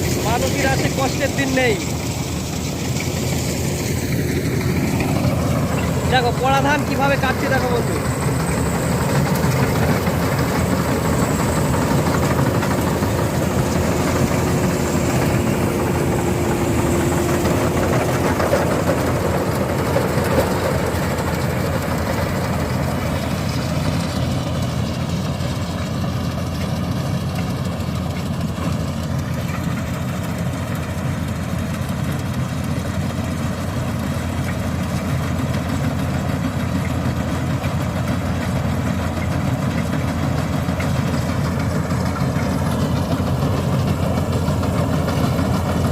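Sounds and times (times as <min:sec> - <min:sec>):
combine harvester engine running: 0:00.0 - 0:45.9.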